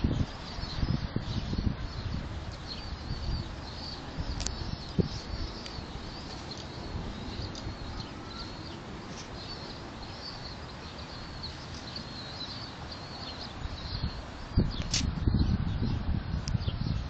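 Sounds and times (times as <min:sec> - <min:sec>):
small birds twittering: 0:00.0 - 0:17.0.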